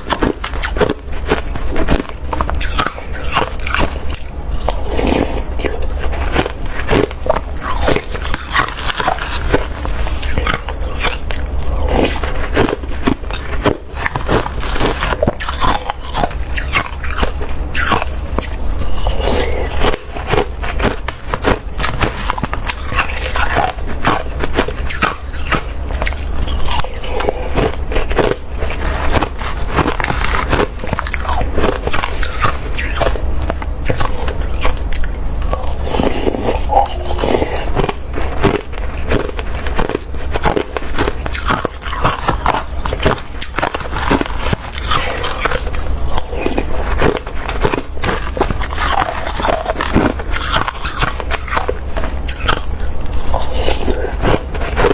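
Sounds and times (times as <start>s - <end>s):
crunching slushy ice: 0.0s - 54.9s.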